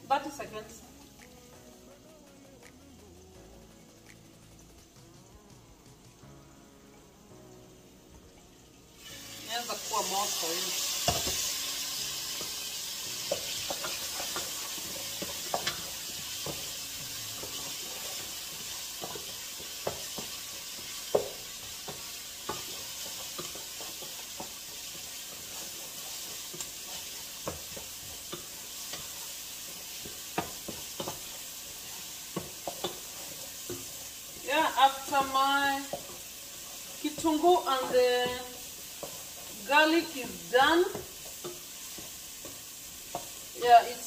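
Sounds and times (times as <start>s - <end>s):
onions and garlic sizzling: 0.0s - 44.0s.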